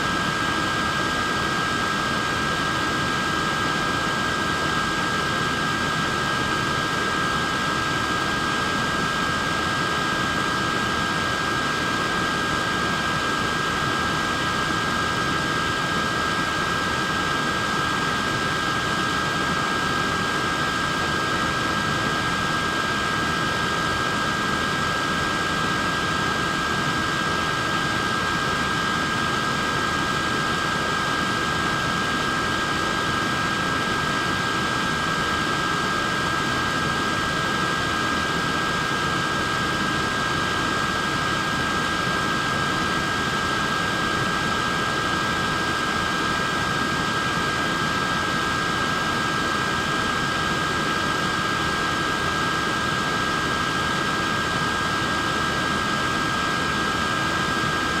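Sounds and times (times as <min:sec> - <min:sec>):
high-pitched motor whine: 0:00.0 - 0:58.0.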